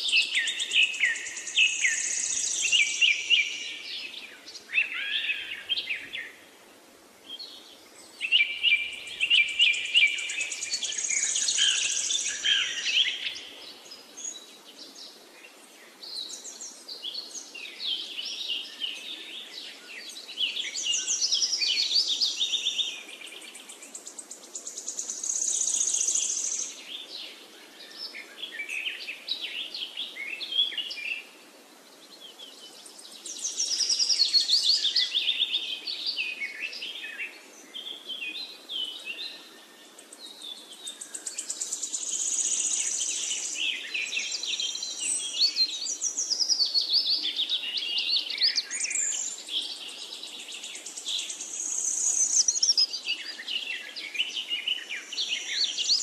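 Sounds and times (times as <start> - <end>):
birds chirping and trilling: 0.0 - 6.4, 7.3 - 31.3, 32.1 - 56.0.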